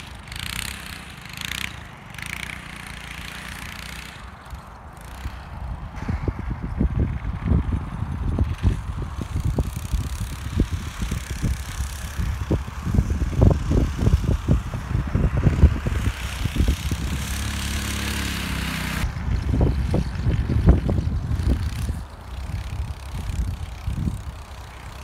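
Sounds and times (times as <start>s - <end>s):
snowbike engine running: 0.0s - 25.0s.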